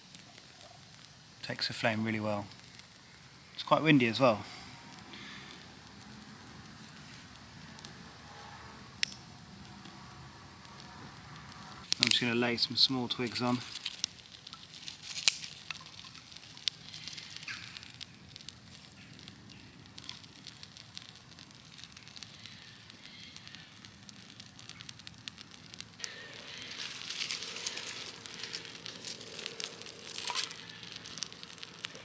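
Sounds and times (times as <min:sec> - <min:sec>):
campfire crackling and popping: 0:00.0 - 0:32.0
twigs rustling: 0:01.8 - 0:32.0.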